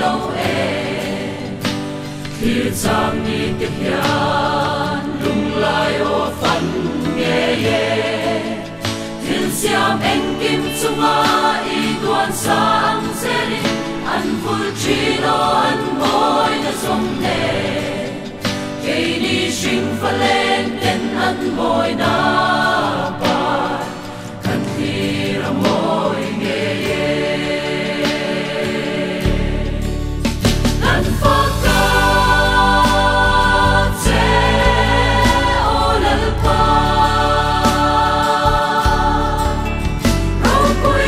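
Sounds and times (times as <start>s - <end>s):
mixed choir singing gospel: 0.0s - 41.0s.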